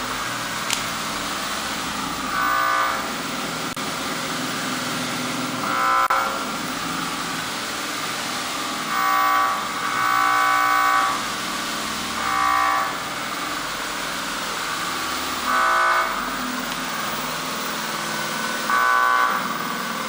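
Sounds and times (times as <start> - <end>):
buzzy synthesizer tone: 0.0 - 20.0.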